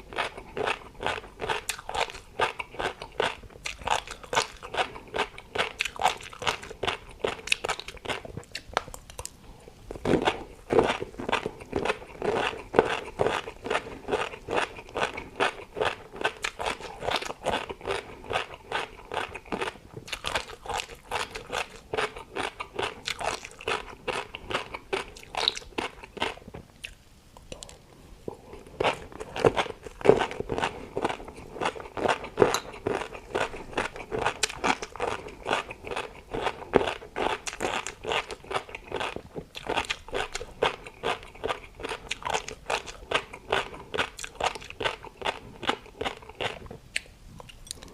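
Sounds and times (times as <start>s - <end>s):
person chewing crisp food: 0.0s - 47.9s.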